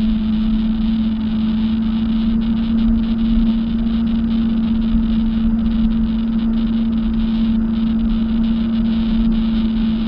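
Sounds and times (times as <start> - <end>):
jet ski engine droning: 0.0 - 10.0.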